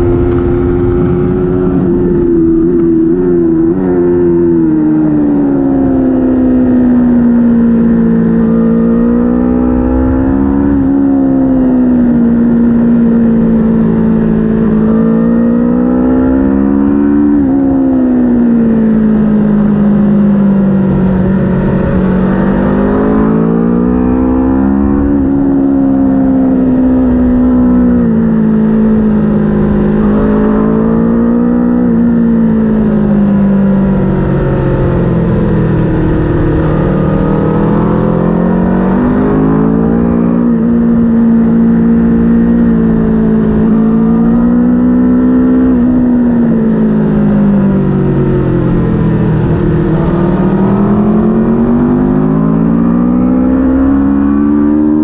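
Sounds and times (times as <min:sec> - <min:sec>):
race engine at high revs: 0:00.0 - 0:55.0.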